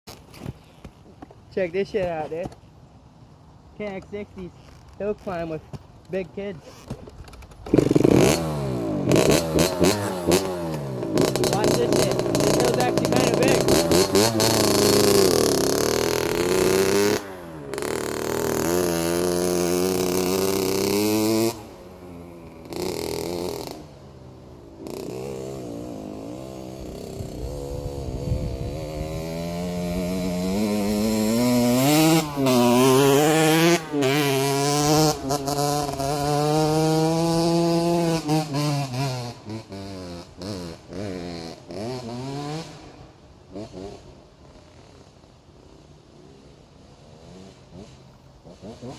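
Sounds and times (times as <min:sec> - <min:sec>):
two-stroke minibike engine revving: 0:07.6 - 0:48.9.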